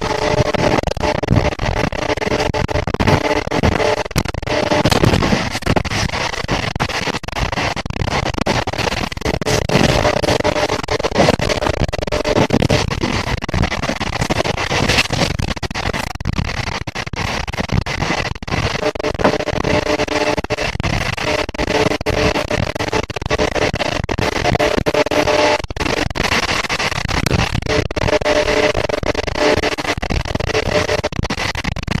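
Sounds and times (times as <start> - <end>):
droning tone: 0.0 - 32.0.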